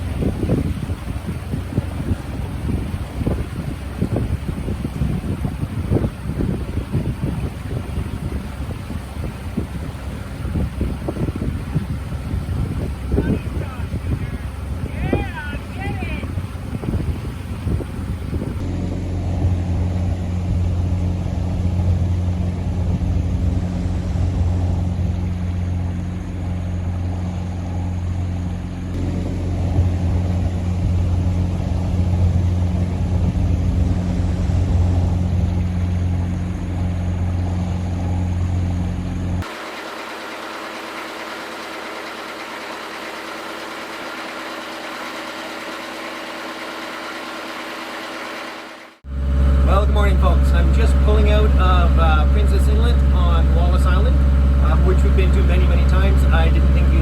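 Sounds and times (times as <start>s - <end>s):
boat engine humming: 0.0s - 57.0s.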